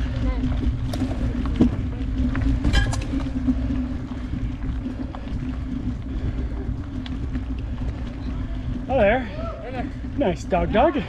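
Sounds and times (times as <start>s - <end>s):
constant low hum: 0.0s - 11.0s
wind buffeting microphone: 0.0s - 11.0s.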